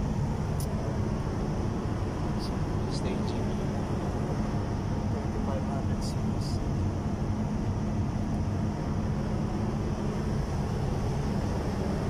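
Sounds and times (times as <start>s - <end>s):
diesel generator humming: 0.0s - 12.0s.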